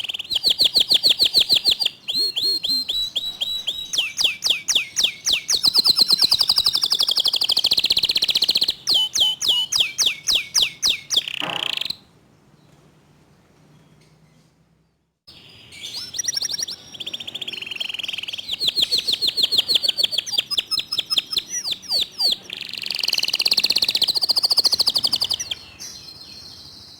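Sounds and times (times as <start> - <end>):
canary singing trills: 0.0 - 12.1, 15.3 - 26.9.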